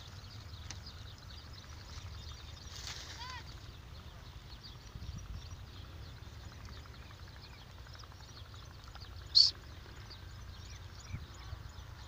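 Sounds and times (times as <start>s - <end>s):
low open air rumble: 0.0s - 12.0s
small birds chirping: 0.0s - 12.0s.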